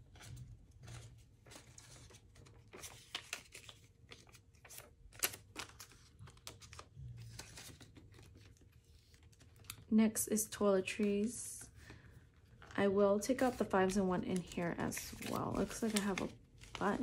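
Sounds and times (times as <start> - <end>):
paper banknotes rustling: 0.0 - 9.8, 10.9 - 17.0.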